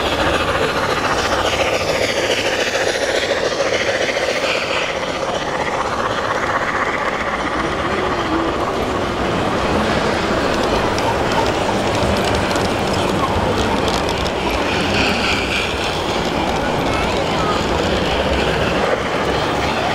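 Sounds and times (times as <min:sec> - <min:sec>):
din of busy hall: 0:00.0 - 0:19.9
model train running on track: 0:00.0 - 0:19.9.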